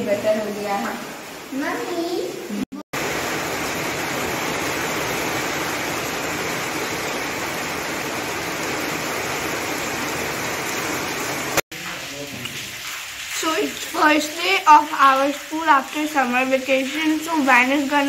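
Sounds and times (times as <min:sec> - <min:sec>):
heavy rain splashing into water: 0:00.0 - 0:18.0.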